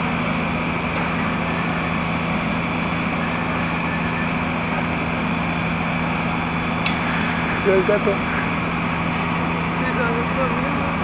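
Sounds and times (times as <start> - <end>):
engine-like drone: 0.0 - 11.0.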